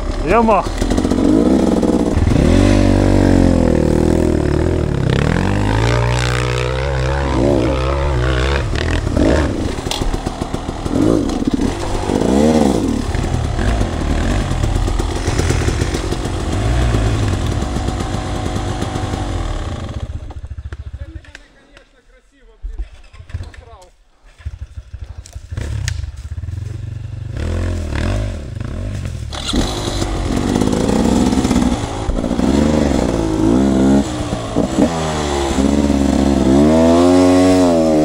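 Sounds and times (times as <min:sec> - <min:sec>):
dirt bike engine revving: 0:00.0 - 0:21.2, 0:24.3 - 0:38.0.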